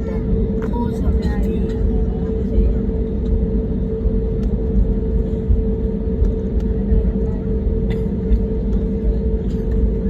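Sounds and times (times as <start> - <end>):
aircraft cabin low rumble: 0.0 - 10.0
constant mid-pitched hum: 0.0 - 10.0.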